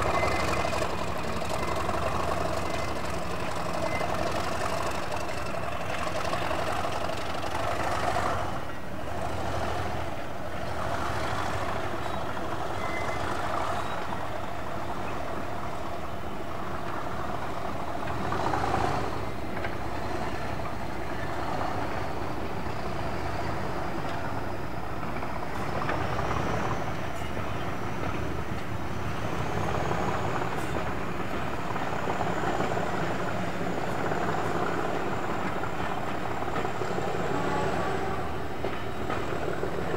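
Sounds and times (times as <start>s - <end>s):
diesel locomotive engine rumbling: 0.0s - 39.9s.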